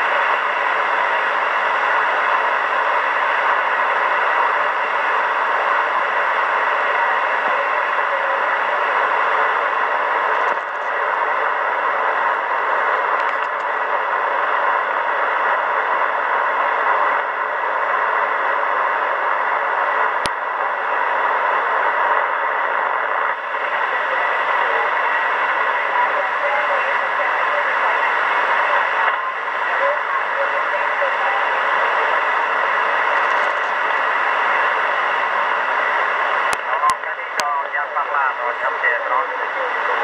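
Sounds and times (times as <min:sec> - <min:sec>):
radio static hiss: 0:00.0 - 0:40.0.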